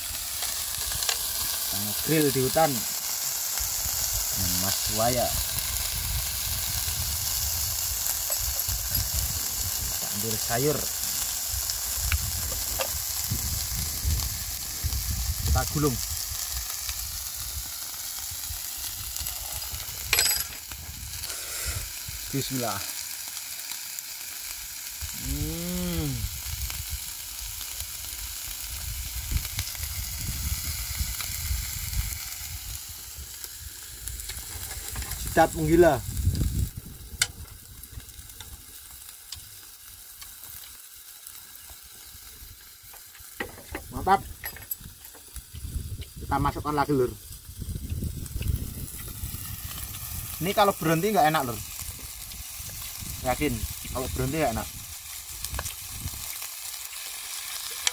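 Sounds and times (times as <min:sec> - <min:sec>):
loud crackle: 0:00.0 - 0:57.9
meat sizzling on griddle: 0:00.0 - 0:57.9.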